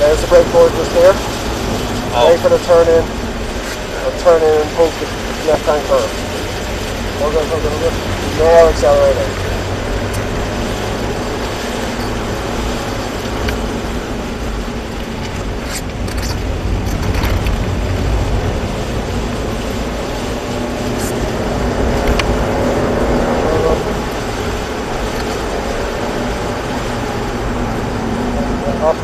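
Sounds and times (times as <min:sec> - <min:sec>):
car engine accelerating: 0:00.0 - 0:29.0
road noise: 0:00.0 - 0:29.0.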